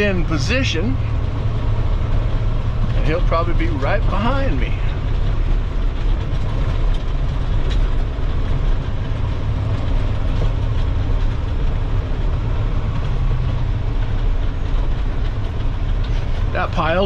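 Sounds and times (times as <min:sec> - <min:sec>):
diesel truck engine droning: 0:00.0 - 0:17.0.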